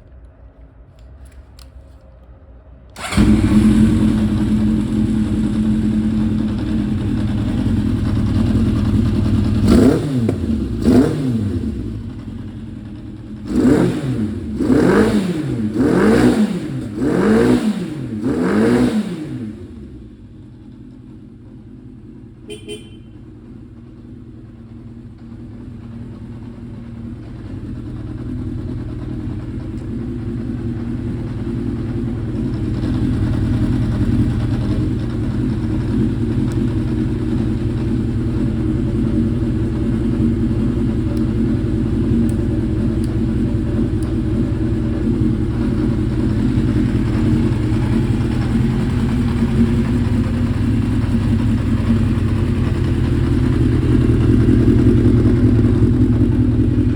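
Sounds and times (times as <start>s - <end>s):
motorcycle engine idling: 3.0s - 56.9s.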